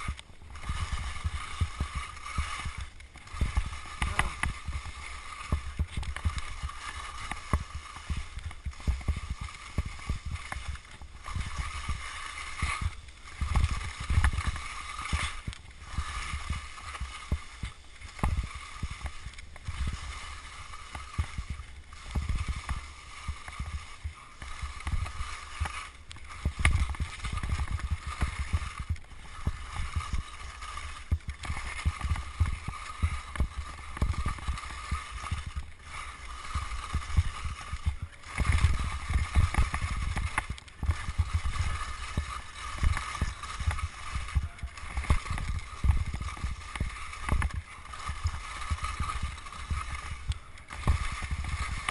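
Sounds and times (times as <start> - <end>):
skis scraping over icy snow: 0.0 - 51.9
wind buffeting camera microphone: 0.0 - 51.9.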